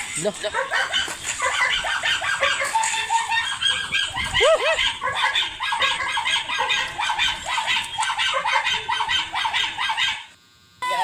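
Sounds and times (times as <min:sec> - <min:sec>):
fowl calling: 0:00.8 - 0:10.2.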